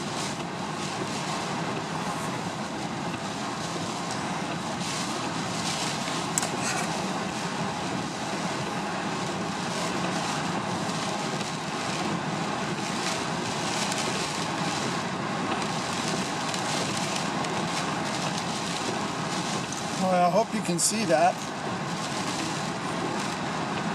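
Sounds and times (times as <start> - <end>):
truck engine running low: 0.0 - 23.9.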